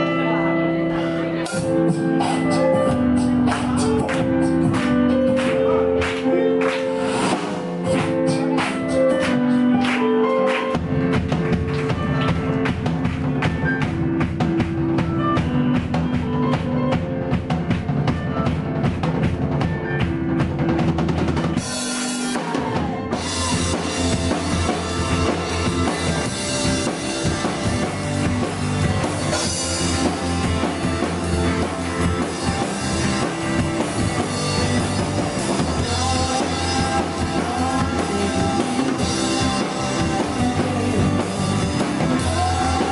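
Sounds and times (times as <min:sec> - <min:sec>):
live rock band playing: 0:00.0 - 0:42.9
drum kit beat: 0:01.4 - 0:42.9.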